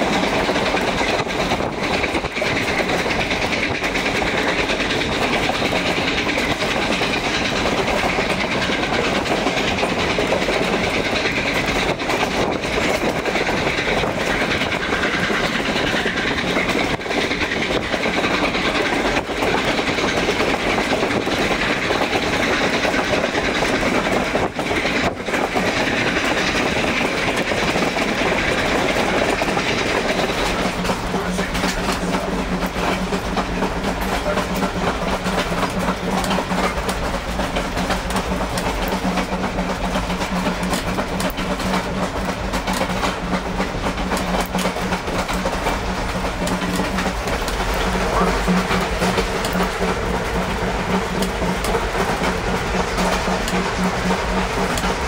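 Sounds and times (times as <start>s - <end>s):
train wheels clicking on rails: 0.0s - 55.0s.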